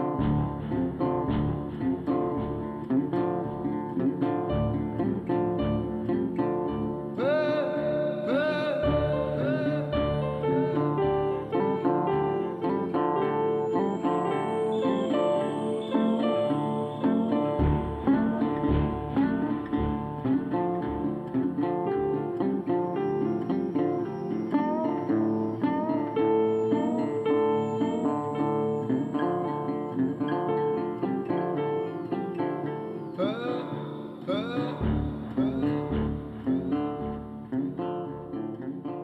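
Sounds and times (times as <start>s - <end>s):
acoustic guitar plucking: 0.0s - 39.0s.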